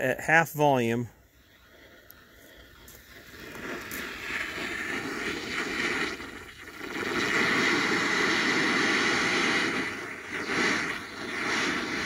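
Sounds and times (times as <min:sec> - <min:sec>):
rushing hiss from leak detector: 0:01.3 - 0:12.0.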